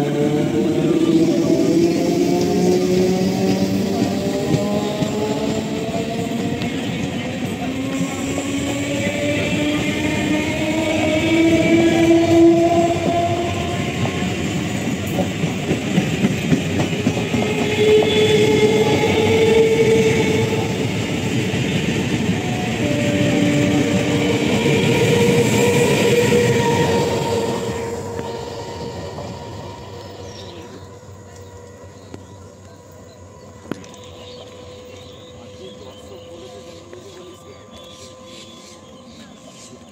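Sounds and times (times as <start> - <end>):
electric traction motors whining: 0.0 - 39.9
train rumble: 0.0 - 39.9
train wheels clattering on rails: 0.0 - 39.9.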